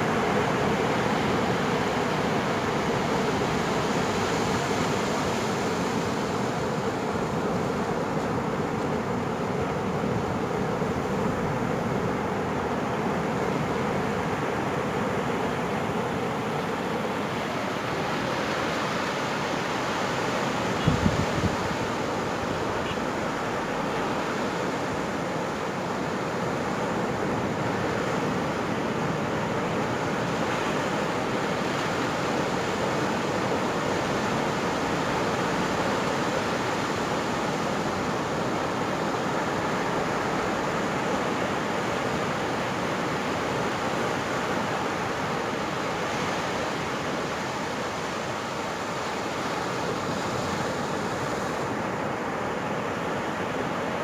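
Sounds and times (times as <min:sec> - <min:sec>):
surf waves breaking on beach: 0:00.0 - 0:54.0.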